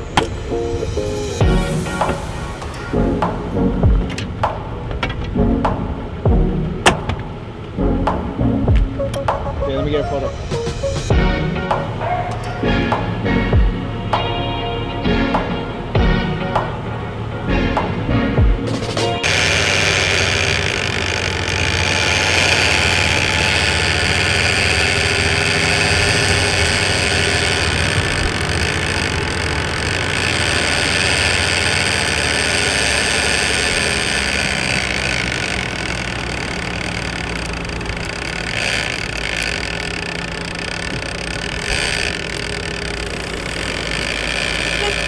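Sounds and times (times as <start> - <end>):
boat engine running: 0.0 - 45.0.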